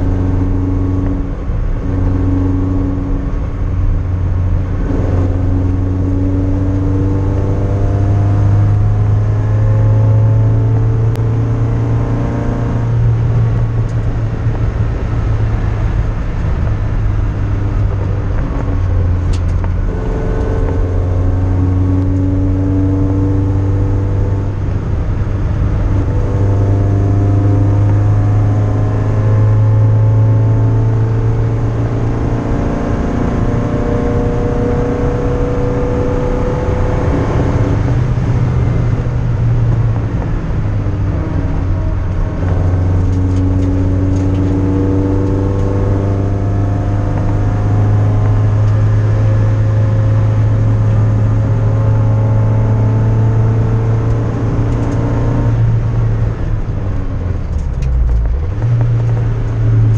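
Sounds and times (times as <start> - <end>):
race car engine drone: 0.0 - 59.9.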